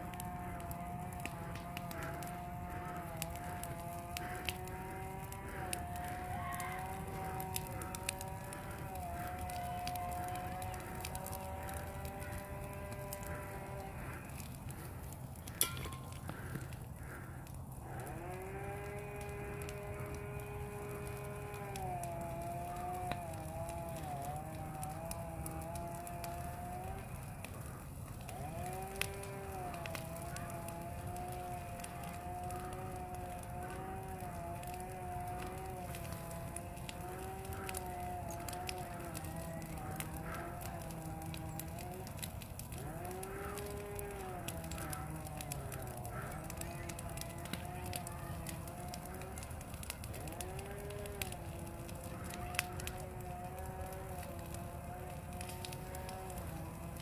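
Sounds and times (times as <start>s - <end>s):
brush fire crackling and popping: 0.0s - 57.0s.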